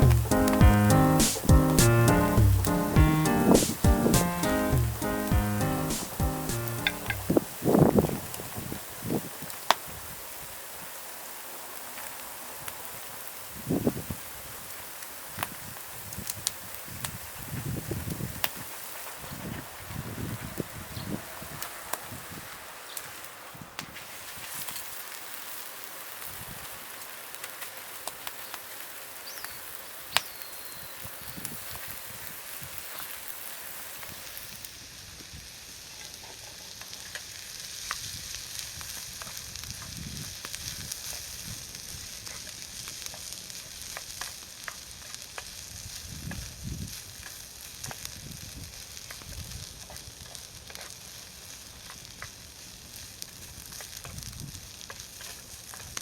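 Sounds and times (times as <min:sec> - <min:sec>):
food sizzling in a skillet: 0:00.0 - 0:56.0.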